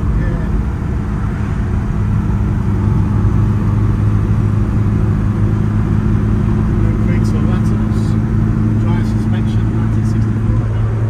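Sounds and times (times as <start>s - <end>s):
car engine droning in cabin: 0.0s - 11.0s
road noise: 0.0s - 11.0s.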